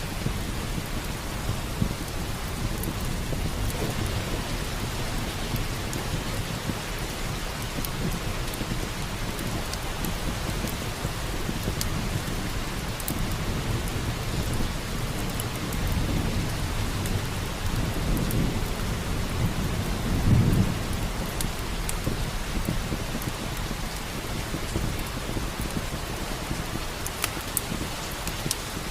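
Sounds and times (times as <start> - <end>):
heavy rain: 0.0 - 28.9
low thunder rumble: 0.0 - 28.9
wood fire crackling: 0.0 - 28.9.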